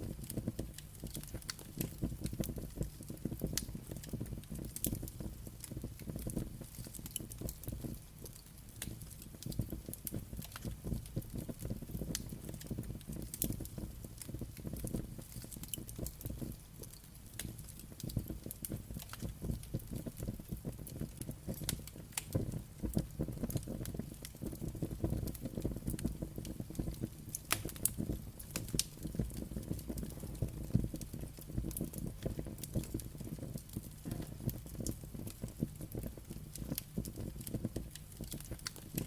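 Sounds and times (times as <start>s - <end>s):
fire popping and crackling: 0.0s - 39.0s
low rumble of flames: 0.0s - 39.0s.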